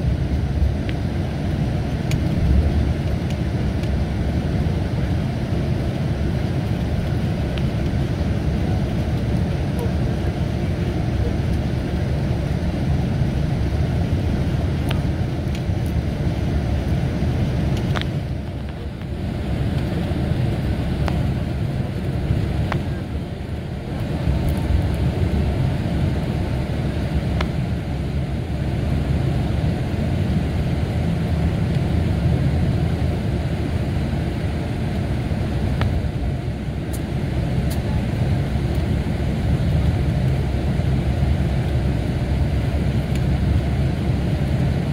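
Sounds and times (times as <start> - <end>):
bus diesel engine drone: 0.0 - 44.9
road noise: 0.0 - 44.9.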